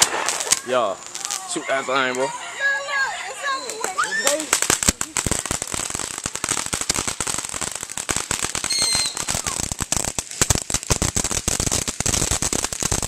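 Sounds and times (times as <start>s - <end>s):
fireworks crackling pops: 0.0s - 13.0s.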